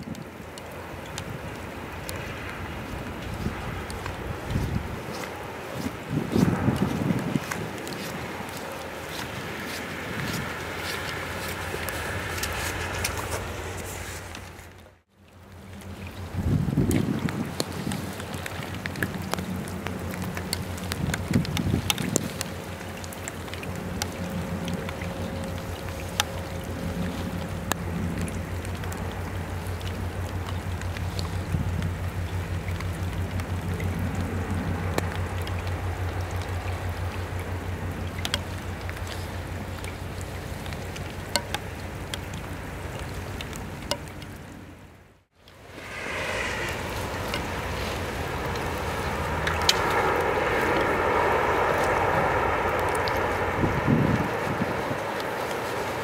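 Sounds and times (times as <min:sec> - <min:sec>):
sharp drip ticks: 0:00.0 - 0:13.6, 0:14.3 - 0:56.0
low engine drone: 0:00.0 - 0:16.8, 0:18.1 - 0:56.0
rain falling: 0:00.0 - 0:56.0
wind: 0:00.0 - 0:56.0.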